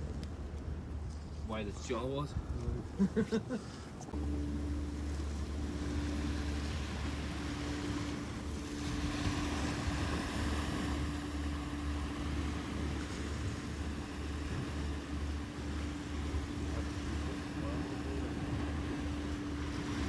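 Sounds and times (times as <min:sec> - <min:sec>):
engine running with low hum: 0:00.0 - 0:20.0.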